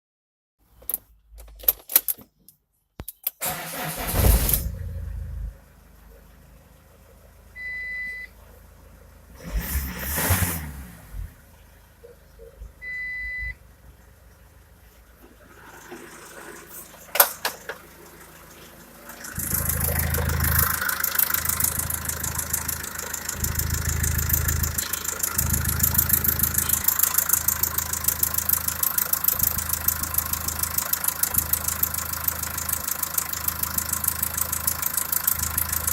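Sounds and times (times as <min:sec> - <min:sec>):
diesel engine starting and idling: 0:03.4 - 0:35.9.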